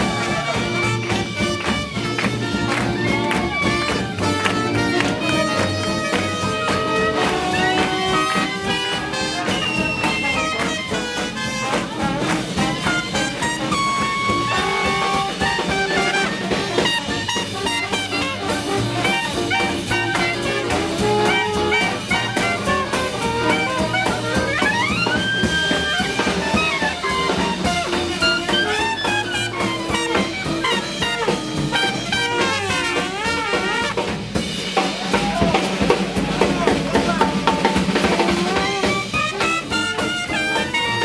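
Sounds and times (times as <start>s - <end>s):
horn held high note: 0.0s - 34.4s, 36.9s - 41.0s
swing jazz band playing: 0.0s - 41.0s.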